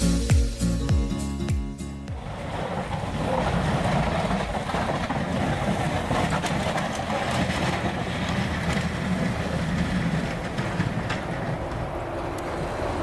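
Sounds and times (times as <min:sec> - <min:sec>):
road noise: 0:01.8 - 0:13.0.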